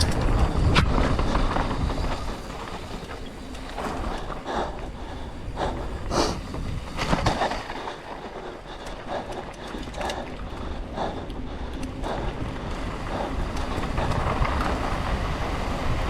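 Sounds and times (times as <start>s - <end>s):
bike chain and frame rattling: 0.0s - 16.0s
bike tyres rumbling over dirt: 0.0s - 16.0s
wind buffeting microphone: 0.0s - 16.0s.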